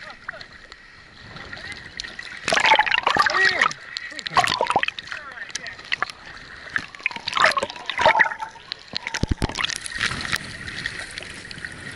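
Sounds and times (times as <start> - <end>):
seawater splashing and gurgling: 0.0 - 11.9.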